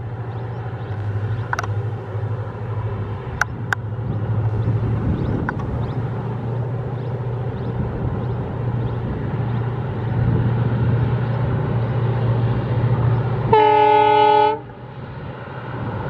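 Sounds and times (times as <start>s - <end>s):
distant locomotive engine drone: 0.0s - 16.0s.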